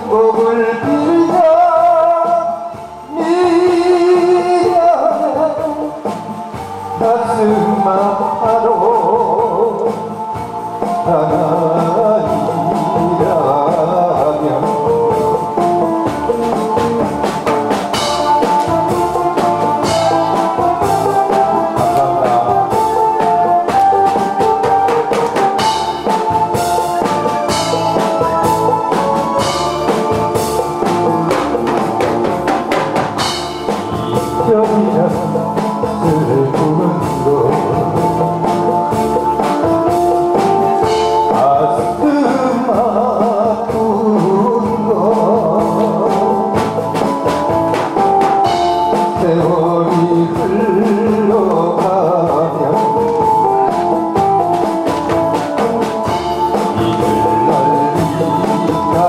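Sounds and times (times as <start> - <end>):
drum-kit beat: 0.0 - 59.0
held instrumental notes: 0.0 - 59.0
wavering melody line: 6.3 - 59.0.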